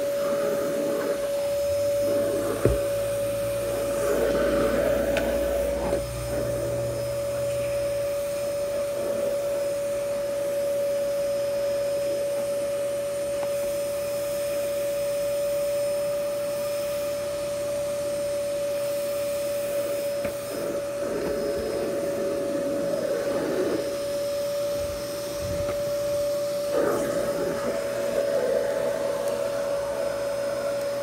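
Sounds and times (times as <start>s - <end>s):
vacuum cleaner droning: 0.0s - 31.0s.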